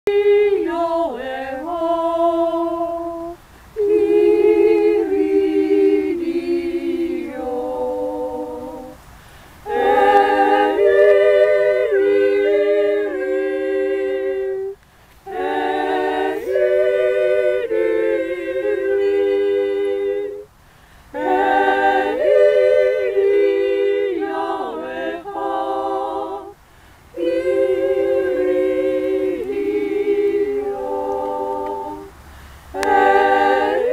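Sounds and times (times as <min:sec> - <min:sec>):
women singing unaccompanied: 0:00.1 - 0:33.9.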